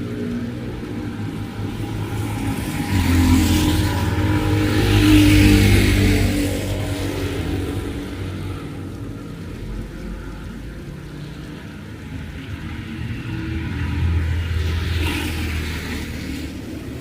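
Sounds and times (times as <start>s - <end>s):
vehicle passing on wet road: 0.0s - 17.0s.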